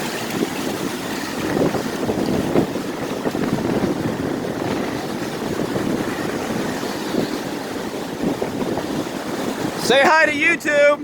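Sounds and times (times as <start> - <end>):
heavy surf rushing: 0.0 - 11.0
wind buffeting microphone: 0.0 - 11.0.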